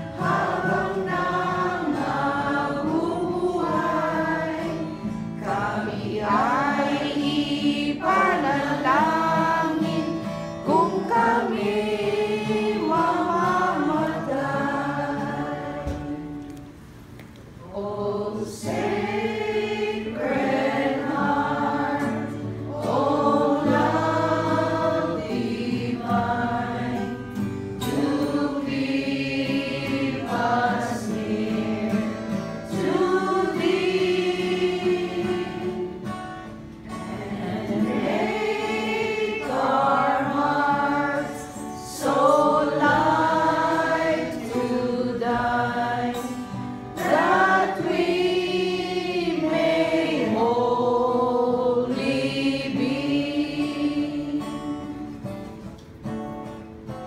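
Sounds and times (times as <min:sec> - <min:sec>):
group singing a hymn: 0:00.0 - 0:17.0, 0:17.6 - 0:55.7
acoustic guitar: 0:00.0 - 0:57.0.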